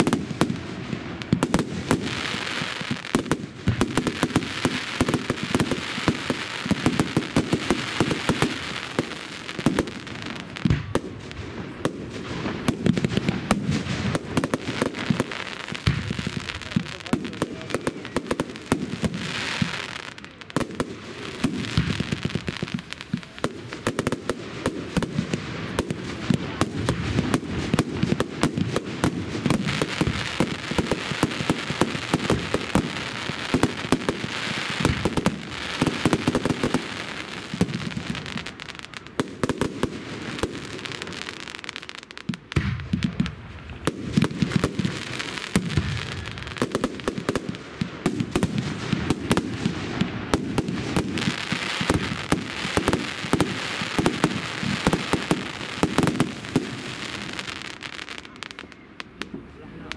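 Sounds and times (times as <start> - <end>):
fireworks bangs and pops: 0.0 - 59.9.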